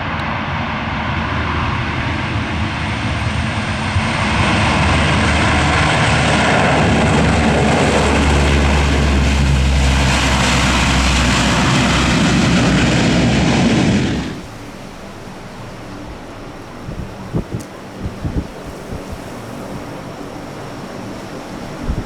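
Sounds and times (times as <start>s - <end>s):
turboprop engines droning: 0.0s - 22.0s.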